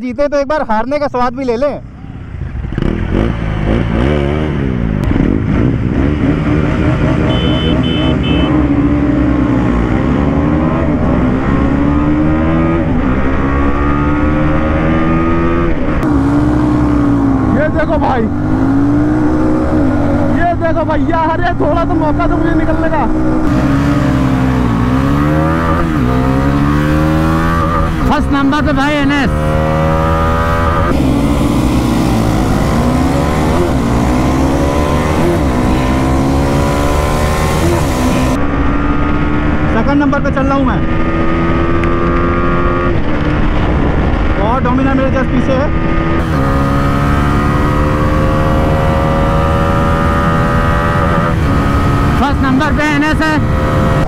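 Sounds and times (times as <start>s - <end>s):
motorcycle engine accelerating hard: 1.8s - 54.0s
rushing wind noise: 8.1s - 54.0s.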